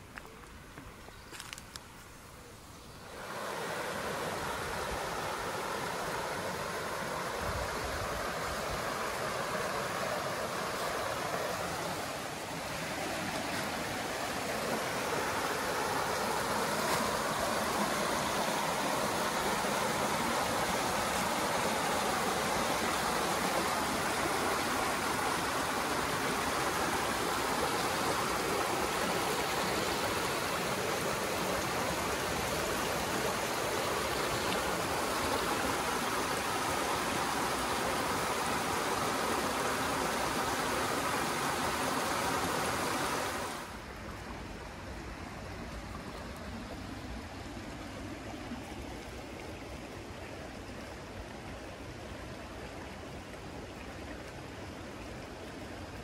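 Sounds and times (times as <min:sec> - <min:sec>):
flowing water: 0:00.0 - 0:56.0.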